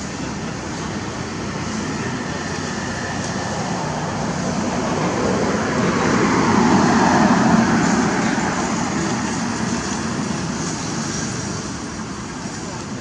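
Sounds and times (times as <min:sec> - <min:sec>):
road vehicle passing: 0:00.0 - 0:12.4.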